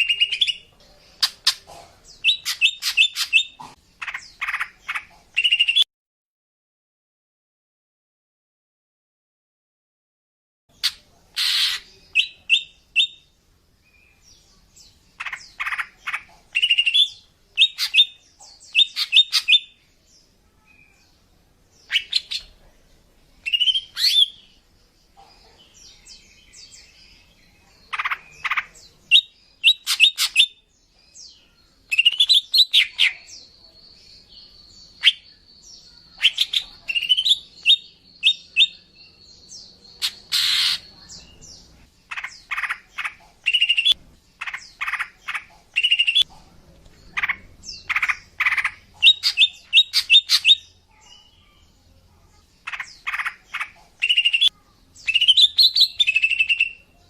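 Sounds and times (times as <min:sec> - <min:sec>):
bird chirping and calling: 0:00.0 - 0:05.9, 0:10.7 - 0:13.3, 0:13.9 - 0:19.9, 0:21.8 - 0:22.6, 0:23.4 - 0:57.0.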